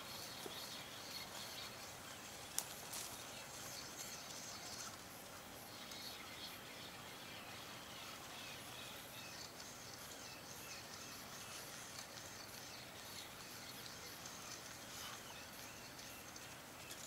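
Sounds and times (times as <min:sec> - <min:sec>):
faint bird chirps: 0:00.0 - 0:17.0
steady hiss: 0:00.0 - 0:17.0.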